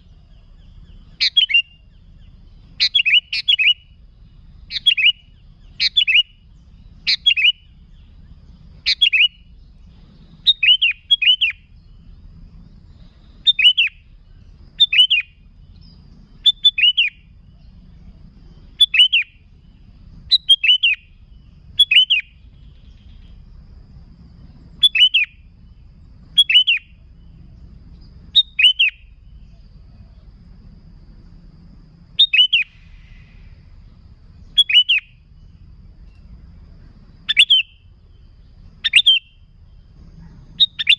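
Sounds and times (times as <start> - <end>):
bird singing short phrases: 0.0 - 23.5, 24.4 - 30.3, 32.0 - 40.9
faint low rumble: 0.0 - 40.9.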